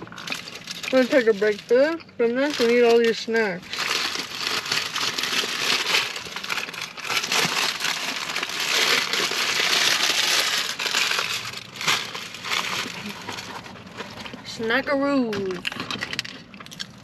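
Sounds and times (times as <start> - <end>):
food packaging crinkling: 0.0 - 14.5, 15.4 - 17.0.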